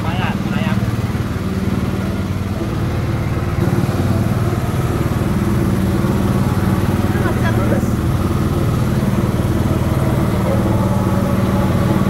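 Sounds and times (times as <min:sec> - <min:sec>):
go-kart engine buzzing: 0:00.0 - 0:12.0.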